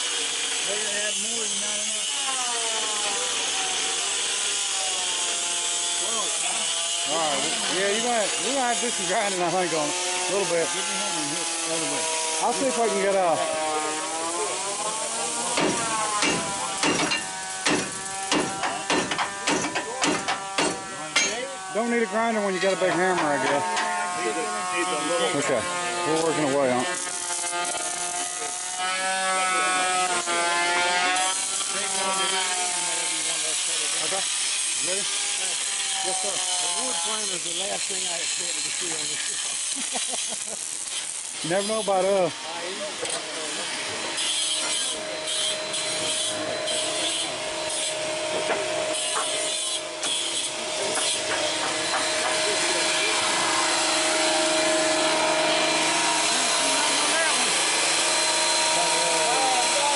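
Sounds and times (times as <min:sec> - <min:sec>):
power tool motor whine: 0:00.0 - 0:59.9.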